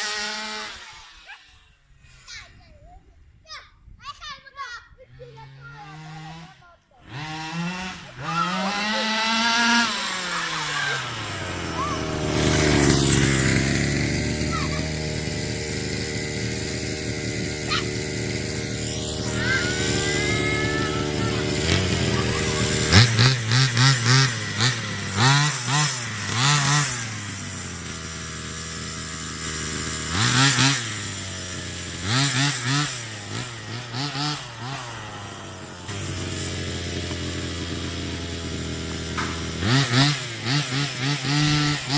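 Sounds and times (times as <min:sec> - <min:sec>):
two-stroke engine revving: 0:00.0 - 0:01.9, 0:05.1 - 0:41.9.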